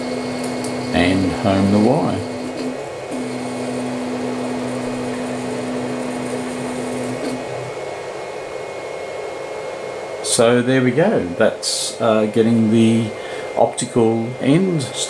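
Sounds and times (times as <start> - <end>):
power supply fan hiss: 0.0 - 15.0
stepper motor whine: 0.0 - 15.0.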